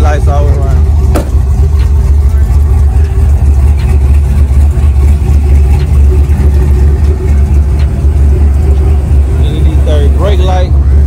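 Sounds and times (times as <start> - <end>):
vvee eight engine idling: 0.0 - 11.0.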